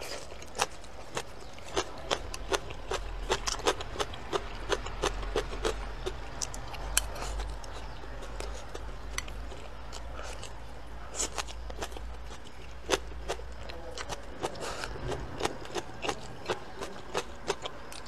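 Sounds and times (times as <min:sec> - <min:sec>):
crunchy chewing: 0:00.0 - 0:18.0.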